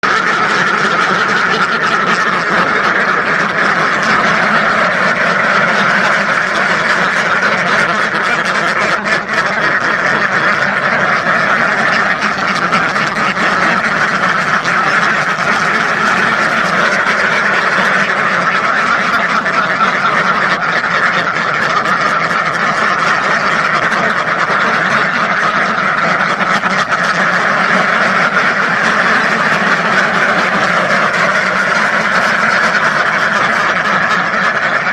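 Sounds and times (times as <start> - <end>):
flock of ducks quacking: 0.0 - 34.9.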